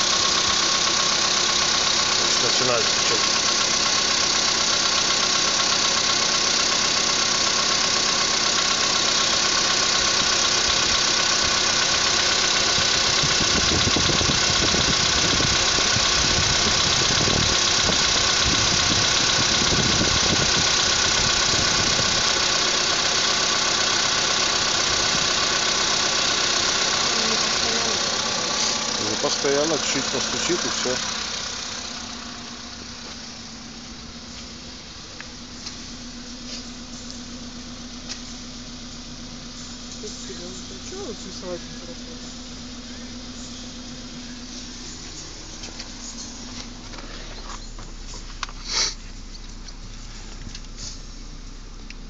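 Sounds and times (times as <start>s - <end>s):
car engine idling with knocking: 0.0s - 52.0s.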